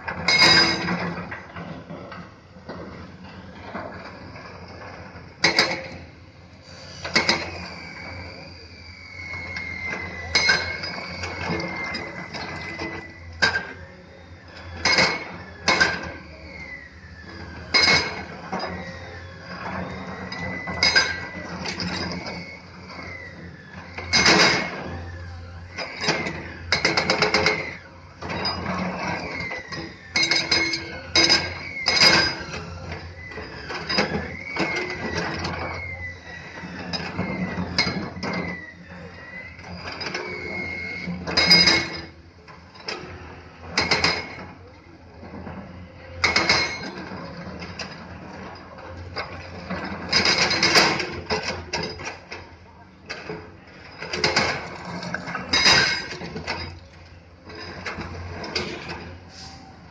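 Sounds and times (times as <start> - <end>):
thin hydraulic whine: 0.0 - 59.9.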